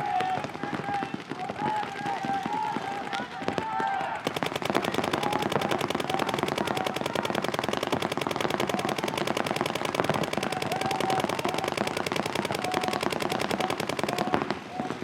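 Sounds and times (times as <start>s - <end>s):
paintball markers firing: 0.1s - 15.0s.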